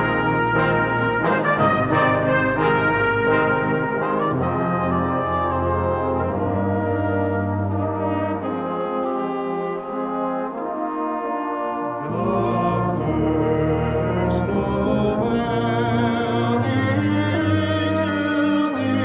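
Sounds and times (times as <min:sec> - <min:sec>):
brass band playing chords: 0:00.0 - 0:19.0.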